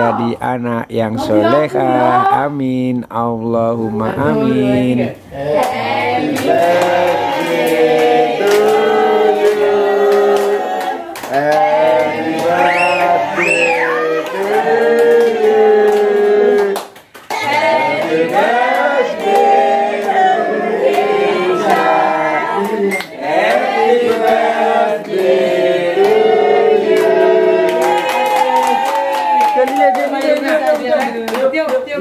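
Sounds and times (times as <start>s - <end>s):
voices singing held phrases: 3.9s - 31.3s.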